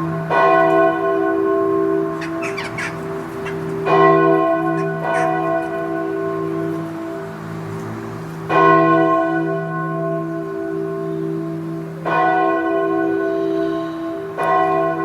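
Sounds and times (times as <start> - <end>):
church bell tolling: 0.0 - 15.0.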